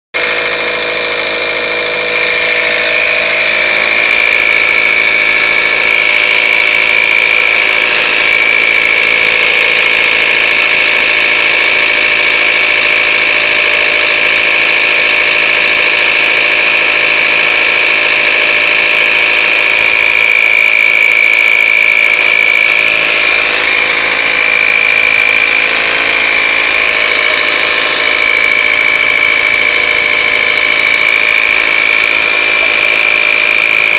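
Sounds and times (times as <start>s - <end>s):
car engine running with rattle: 0.1s - 33.9s.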